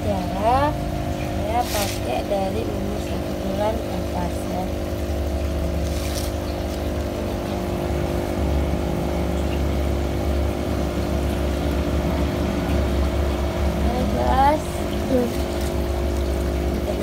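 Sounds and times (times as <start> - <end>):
aquarium air pump humming: 0.0 - 17.0.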